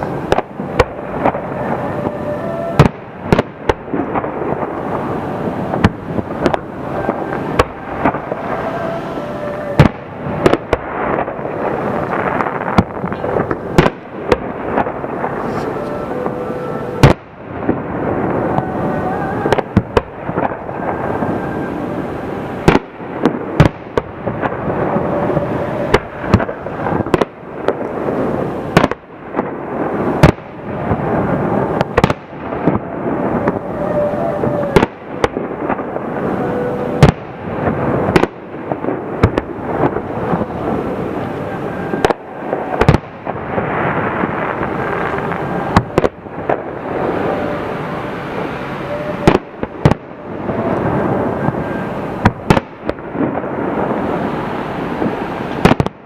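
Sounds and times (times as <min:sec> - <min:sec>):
fireworks bursting with sharp bangs: 0:00.0 - 0:56.0.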